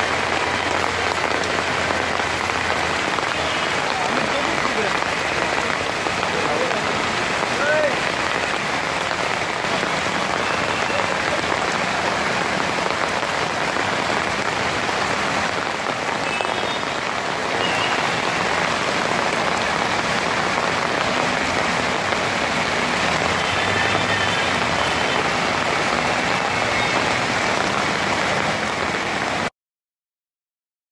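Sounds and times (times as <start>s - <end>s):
heavy rain on wet street: 0.0s - 29.5s.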